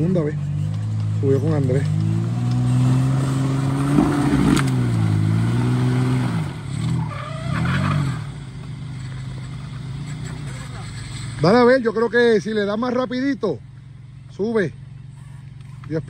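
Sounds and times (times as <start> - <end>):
off-road engine revving under load: 0.0 - 16.0.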